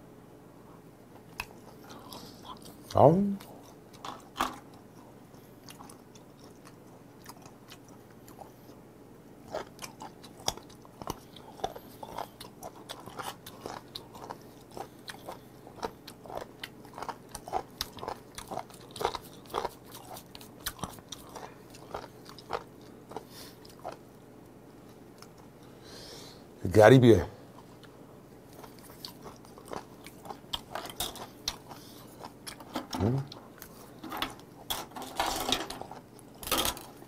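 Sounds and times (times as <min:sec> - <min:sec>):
chewing crunchy seafood: 0:01.2 - 0:25.7, 0:27.4 - 0:37.0.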